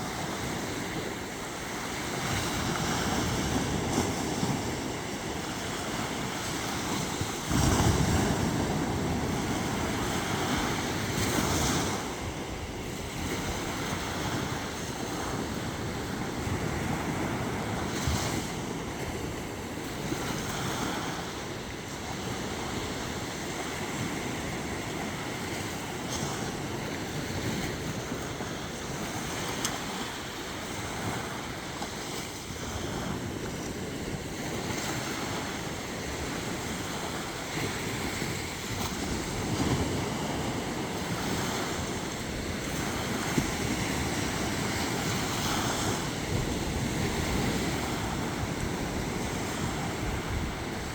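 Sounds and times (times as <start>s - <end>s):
sea waves breaking on shore: 0.0s - 50.9s
wind rumbling on microphone: 0.0s - 50.9s.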